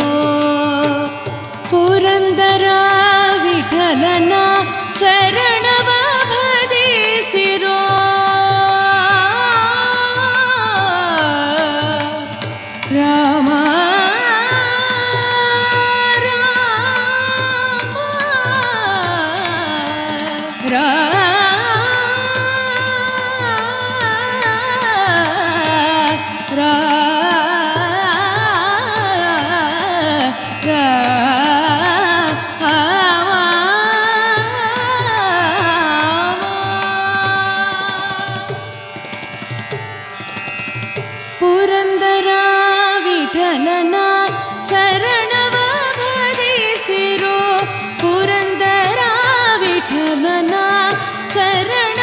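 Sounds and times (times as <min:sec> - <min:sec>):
woman singing ornamented melody: 0:00.0 - 0:12.3, 0:12.9 - 0:38.5, 0:41.4 - 0:52.0.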